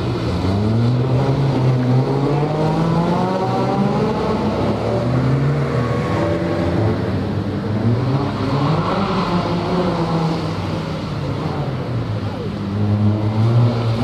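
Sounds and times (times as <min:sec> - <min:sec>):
car engine revving hard: 0:00.1 - 0:11.9.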